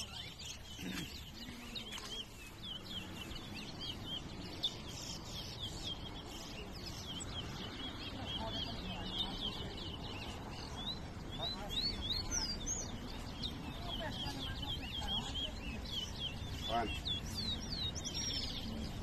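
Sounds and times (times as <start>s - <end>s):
finch chirping song: 0.0s - 19.0s.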